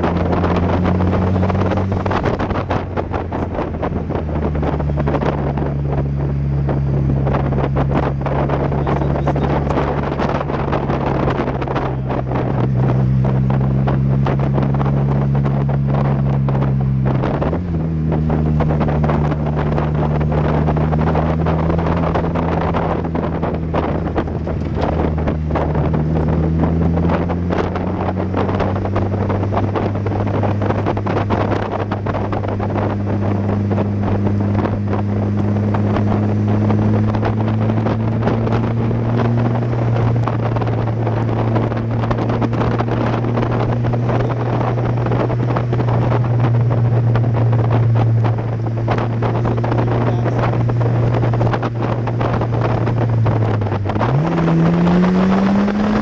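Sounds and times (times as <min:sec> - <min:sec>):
car engine running hard: 0:00.0 - 0:56.0
wind buffeting on microphone: 0:00.0 - 0:56.0.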